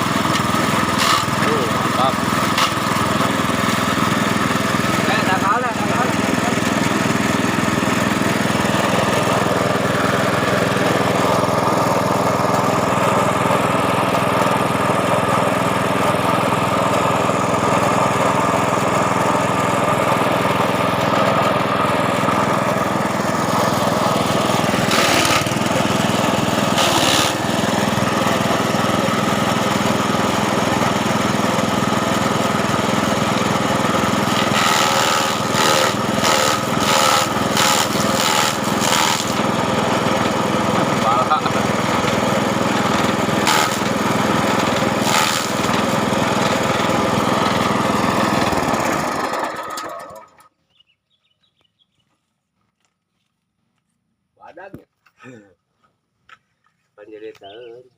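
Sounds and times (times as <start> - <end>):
brush-cutter engine running: 0.0 - 50.6.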